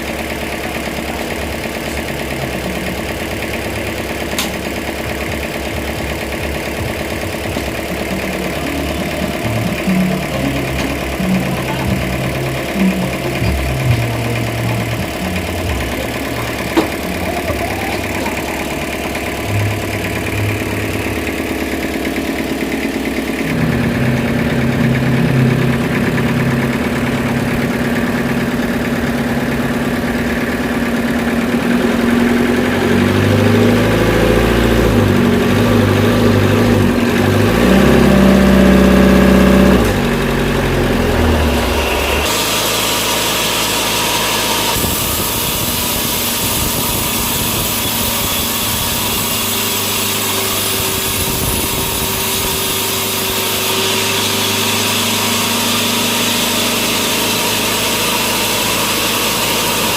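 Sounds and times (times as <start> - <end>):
sawmill machinery engine running: 0.0 - 59.9.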